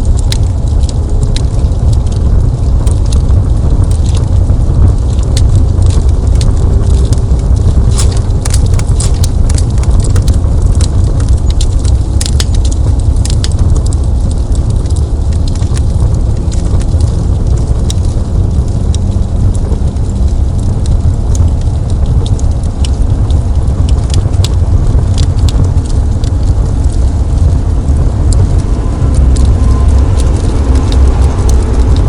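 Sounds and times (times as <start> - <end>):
low fire rumble: 0.0 - 32.0
wood fire crackling and popping: 0.0 - 32.0.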